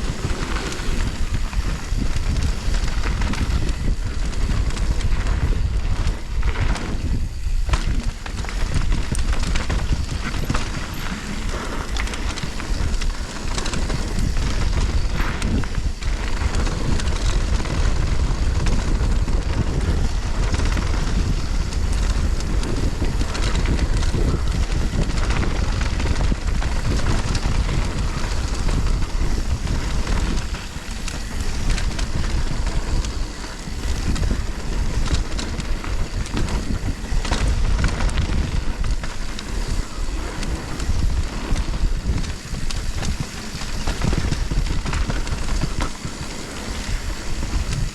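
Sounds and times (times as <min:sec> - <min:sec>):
bike rattling over bumps: 0:00.0 - 0:47.9
bike tyres rolling on rough ground: 0:00.0 - 0:47.9
wind buffeting microphone: 0:00.0 - 0:47.9.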